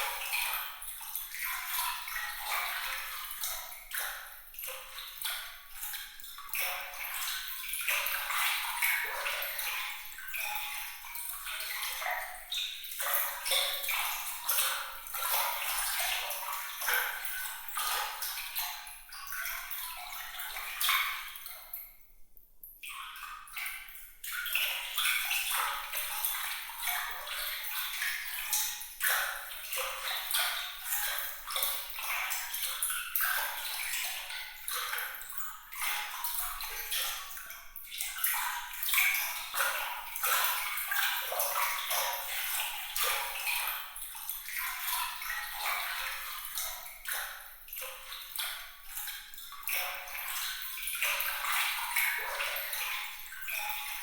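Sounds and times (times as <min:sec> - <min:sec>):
water trickling and splashing: 0:00.0 - 0:22.1, 0:22.8 - 0:54.0.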